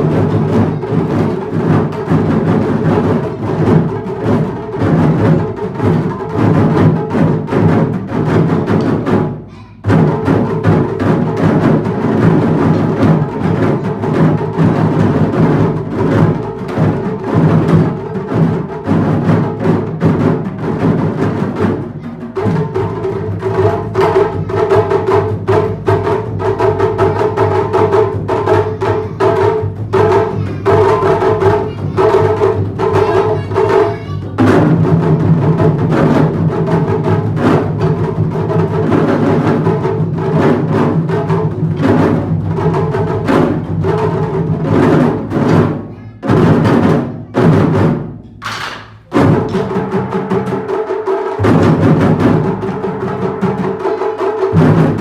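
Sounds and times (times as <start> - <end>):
drum ensemble rapid strikes: 0.0 - 55.0.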